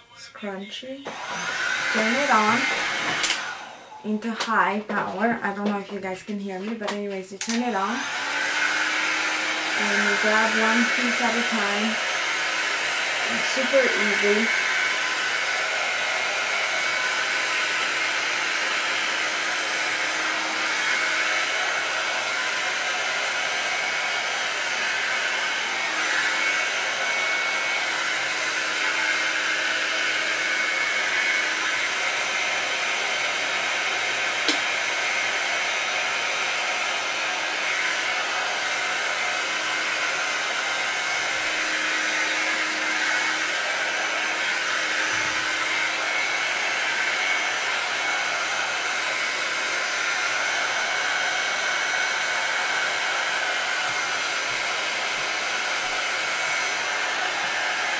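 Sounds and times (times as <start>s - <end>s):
hot-air brush running: 1.0s - 57.9s.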